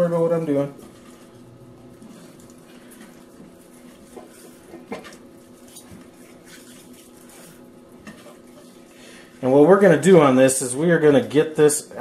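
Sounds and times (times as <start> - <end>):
steady low hum: 0.0 - 12.0
hands rubbing meat in a skillet: 0.4 - 10.1.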